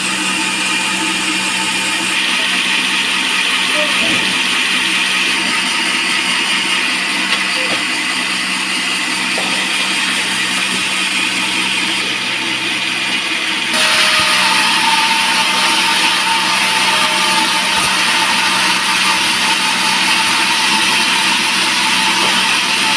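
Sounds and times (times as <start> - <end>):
band saw blade cutting log: 0.0 - 22.9
motor hum: 0.0 - 22.9.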